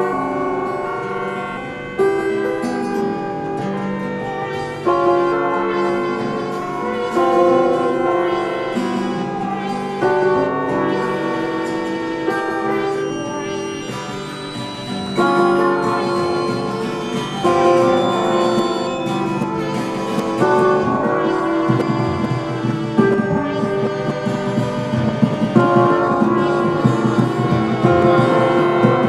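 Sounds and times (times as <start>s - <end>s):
sustained instrumental chords: 0.0s - 29.0s.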